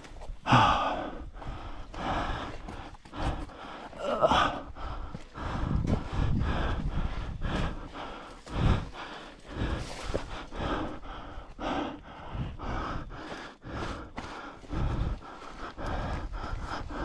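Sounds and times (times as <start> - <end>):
footsteps on a trail: 0.0 - 17.0
person breathing hard: 0.0 - 17.0.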